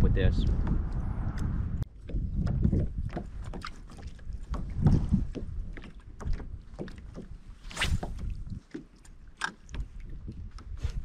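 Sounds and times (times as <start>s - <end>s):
waves lapping against kayak hull: 0.7s - 11.0s.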